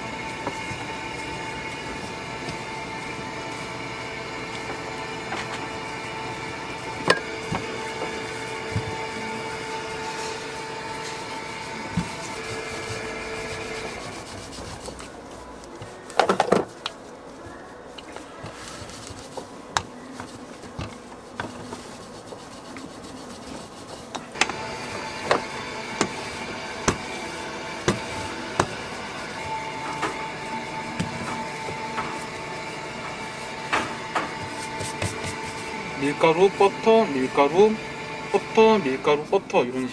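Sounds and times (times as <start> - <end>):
rolling pin rolling over dough: 0.0 - 39.9
steady background hum: 0.0 - 39.9.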